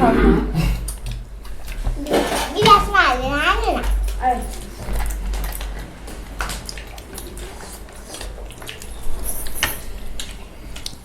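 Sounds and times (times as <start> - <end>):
dishes and utensils clinking: 0.6 - 11.0
dishes clattering: 0.6 - 11.0.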